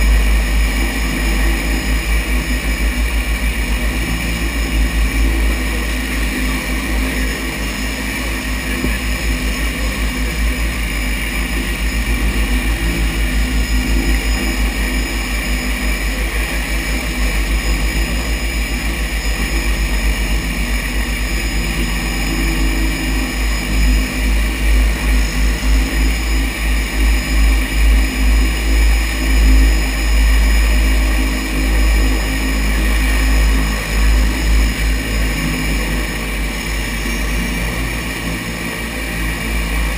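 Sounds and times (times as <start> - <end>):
floatplane propeller engine: 0.0 - 39.9.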